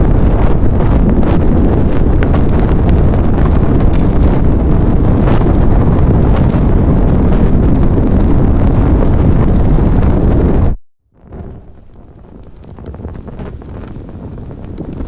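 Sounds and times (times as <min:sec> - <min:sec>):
fire crackling: 0:00.0 - 0:15.0
large fire rumbling: 0:00.0 - 0:15.0.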